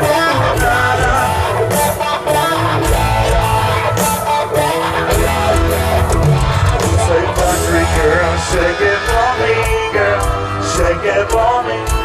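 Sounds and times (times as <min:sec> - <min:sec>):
country-rock band playing: 0:00.0 - 0:12.0
strummed electric guitars: 0:00.0 - 0:12.0.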